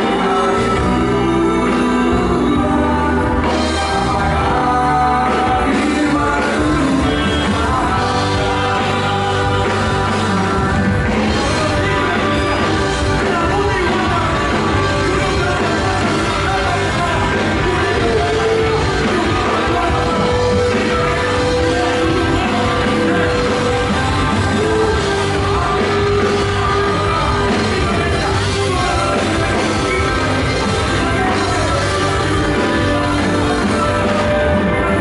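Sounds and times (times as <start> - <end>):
rock band with singing: 0.0 - 35.0.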